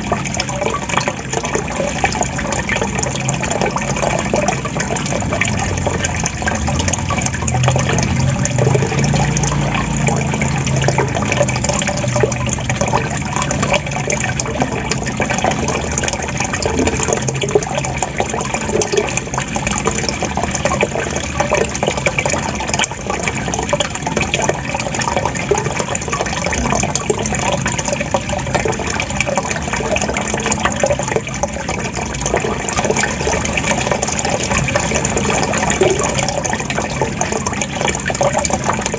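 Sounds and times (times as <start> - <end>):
water gurgling and trickling: 0.0 - 38.9.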